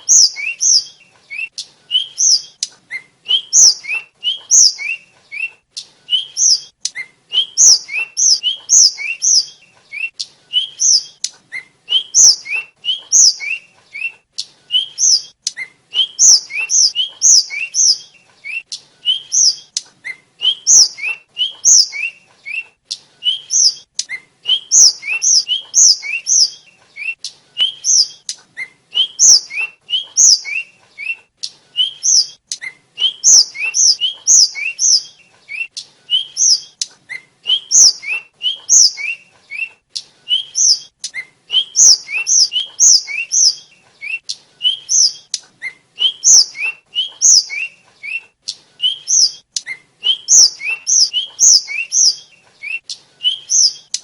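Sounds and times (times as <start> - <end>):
bird singing high whistled notes: 0.0 - 54.0.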